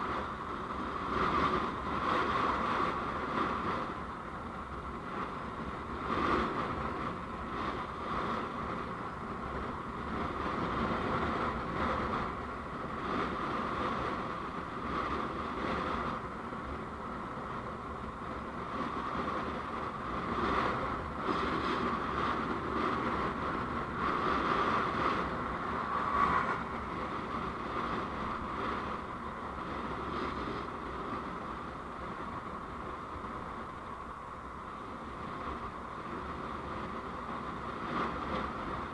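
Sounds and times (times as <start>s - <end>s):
vehicle road noise: 0.0s - 38.9s.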